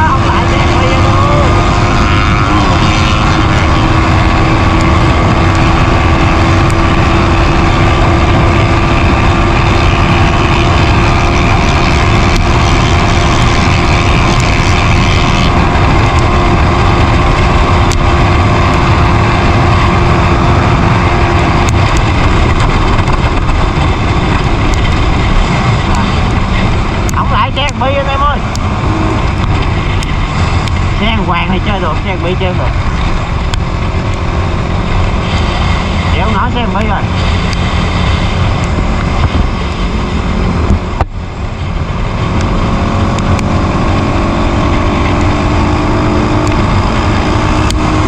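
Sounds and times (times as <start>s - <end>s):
motorcycle engine running: 0.0s - 48.0s
wind rush on microphone: 0.0s - 48.0s.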